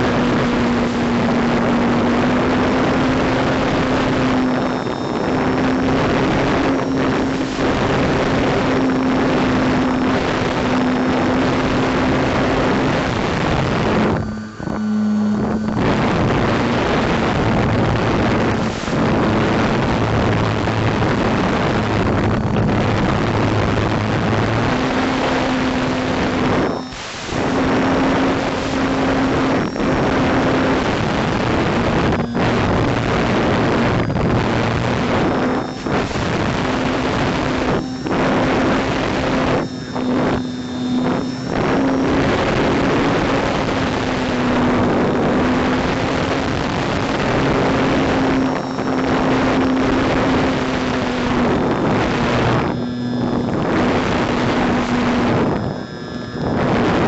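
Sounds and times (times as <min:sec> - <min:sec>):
model plane motor and propeller: 0:00.0 - 0:57.0
wind rushing over microphone: 0:00.0 - 0:57.0.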